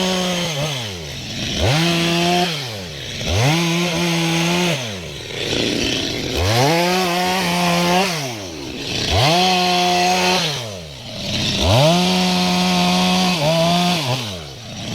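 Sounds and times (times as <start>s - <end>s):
chainsaw revving and idling: 0.0s - 14.9s.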